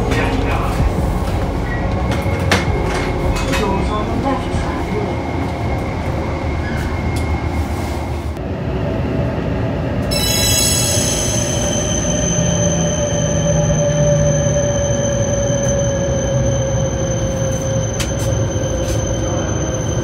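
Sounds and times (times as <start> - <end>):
steady whining tones: 0.0 - 20.0
train rumbling: 0.0 - 20.0.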